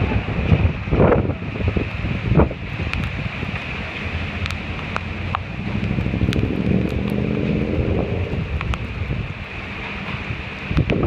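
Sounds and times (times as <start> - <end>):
wind buffeting microphone: 0.0 - 11.0
wind gusting through trees: 0.0 - 11.0.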